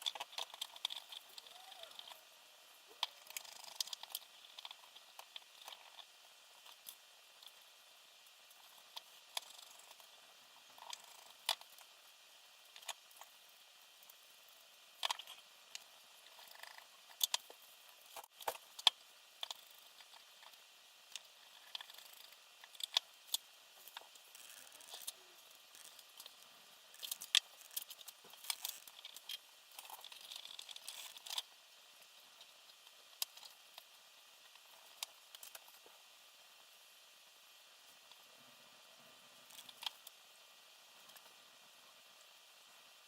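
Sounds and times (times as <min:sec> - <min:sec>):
small parts clicking and tapping: 0:00.0 - 0:36.0, 0:39.4 - 0:40.2.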